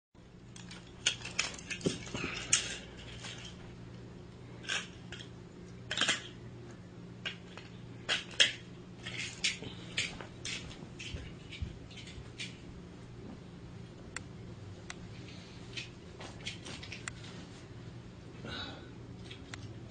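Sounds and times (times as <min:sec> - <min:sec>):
faint steady hum: 0:00.2 - 0:19.9.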